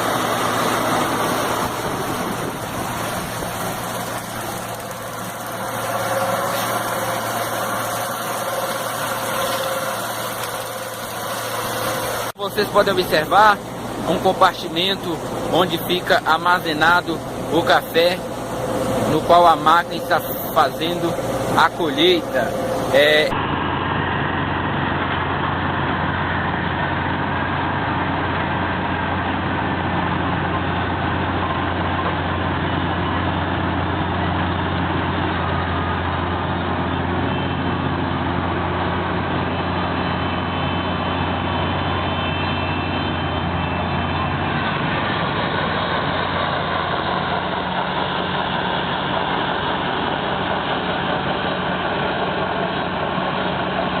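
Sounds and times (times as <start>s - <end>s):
farm machinery engine running: 0.0s - 54.0s.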